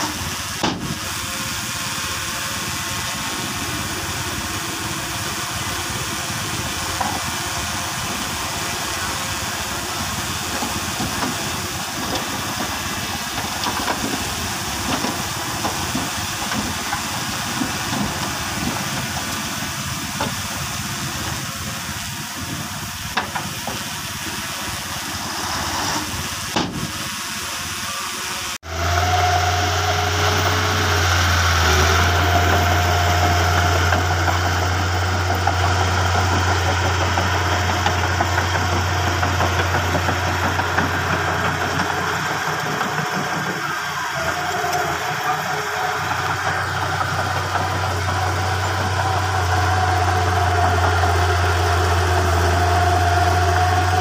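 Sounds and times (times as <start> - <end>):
bulldozer engine humming: 0.0 - 54.0
hiss: 0.0 - 54.0.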